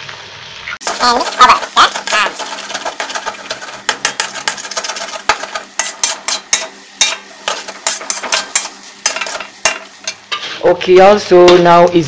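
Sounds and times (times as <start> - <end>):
spatula scraping a wok: 0.8 - 10.8.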